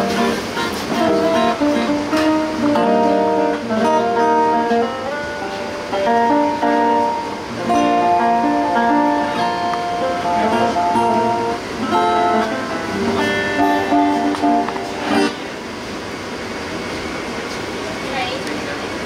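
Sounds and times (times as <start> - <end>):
strummed acoustic guitar music: 0.0 - 16.2.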